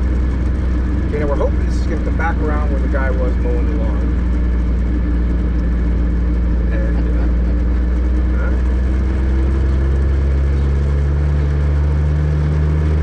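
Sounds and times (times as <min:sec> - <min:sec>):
truck engine running slowly: 0:00.0 - 0:13.0.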